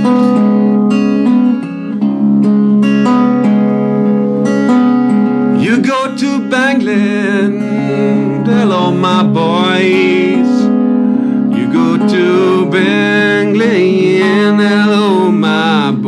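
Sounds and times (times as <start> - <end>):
acoustic guitar blues accompaniment: 0.0 - 16.0
sliding lead guitar line: 0.0 - 16.0.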